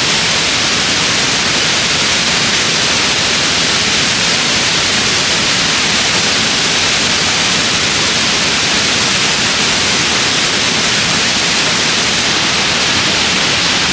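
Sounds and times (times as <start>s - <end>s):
running water rushing: 0.0s - 13.9s.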